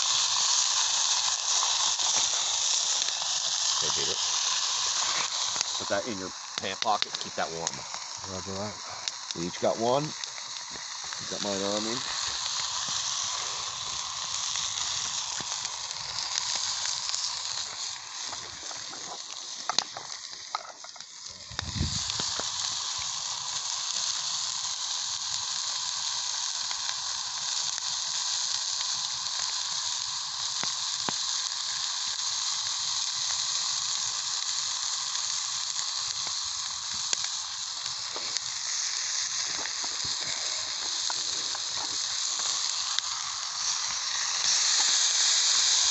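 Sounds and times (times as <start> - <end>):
patties sizzling in a frying pan: 0.0 - 45.9.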